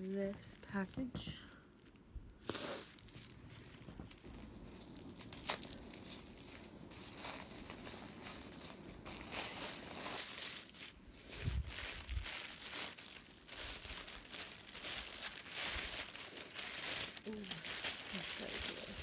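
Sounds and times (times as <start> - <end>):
wrapping crinkling: 0.0 - 19.0.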